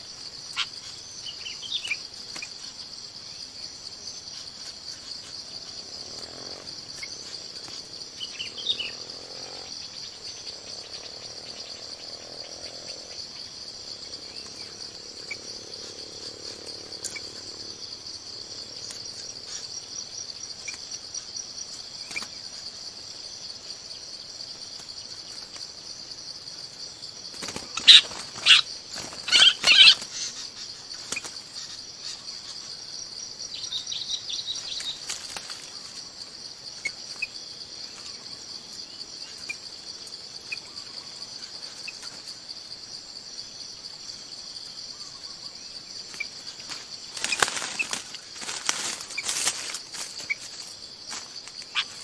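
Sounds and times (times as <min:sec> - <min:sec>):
high insect drone: 0:00.0 - 0:52.0.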